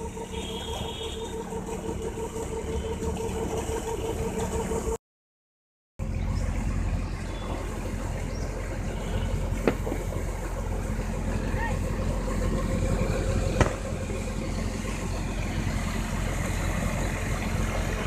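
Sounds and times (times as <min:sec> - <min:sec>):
tractor engine running: 0:00.0 - 0:05.0, 0:06.0 - 0:18.0.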